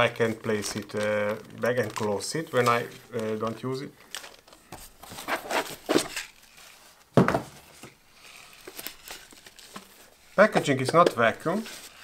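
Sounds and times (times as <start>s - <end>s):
cardboard rustling and scraping: 0.1s - 12.0s.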